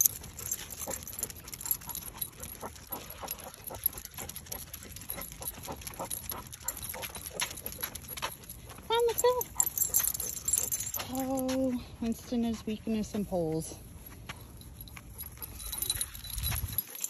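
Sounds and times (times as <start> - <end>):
dog paws clicking: 0.0 - 17.0
footsteps on concrete: 0.0 - 17.0.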